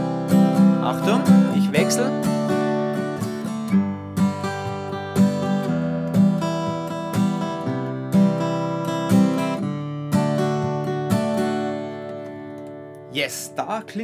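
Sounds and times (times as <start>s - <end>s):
guitar strumming: 0.0s - 14.0s.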